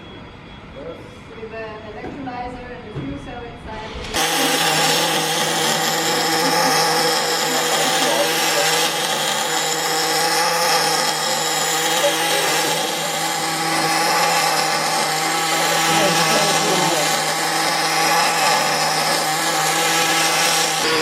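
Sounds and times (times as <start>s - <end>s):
machinery whirring: 0.0s - 21.0s.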